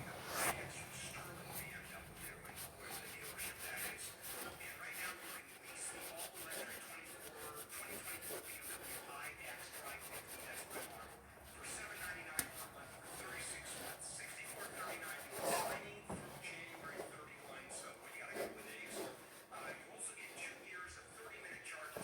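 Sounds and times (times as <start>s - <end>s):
rubbing and scrubbing strokes: 0.0s - 22.0s.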